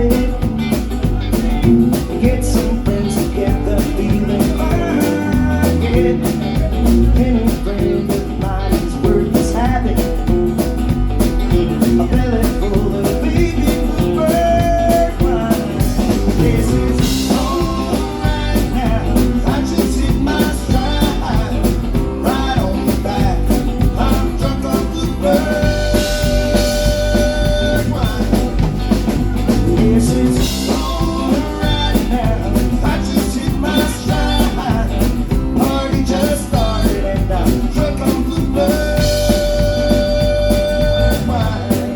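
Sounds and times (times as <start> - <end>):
live band playing blues rock: 0.0 - 41.9.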